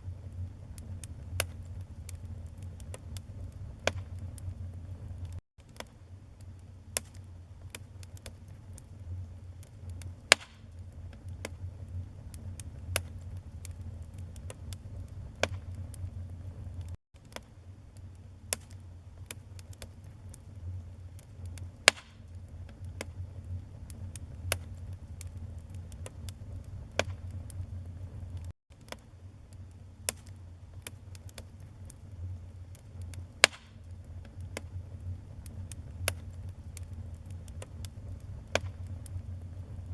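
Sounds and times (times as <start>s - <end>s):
fire low rumble: 0.0s - 5.4s, 6.1s - 17.0s, 17.6s - 39.9s
fire crackling and popping: 0.0s - 39.9s
sharp snaps of fire: 0.0s - 39.9s.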